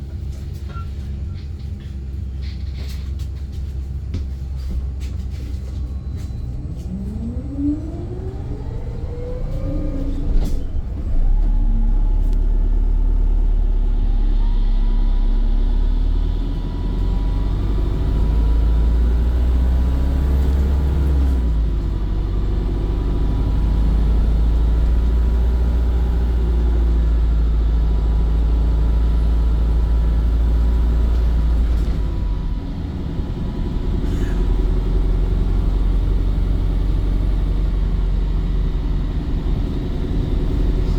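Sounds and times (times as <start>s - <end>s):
bus engine whine and rumble: 0.0s - 40.9s.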